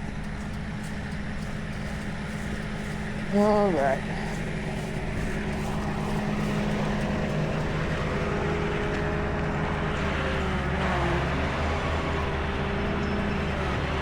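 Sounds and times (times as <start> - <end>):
tow truck engine running: 0.0 - 14.0.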